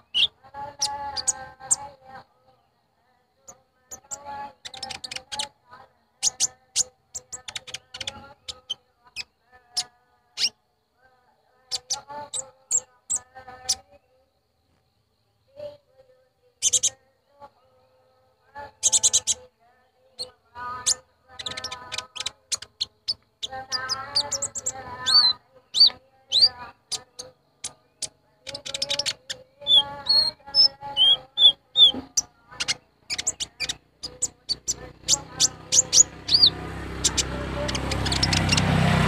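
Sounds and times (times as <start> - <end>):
sunbird song: 0.0 - 39.0.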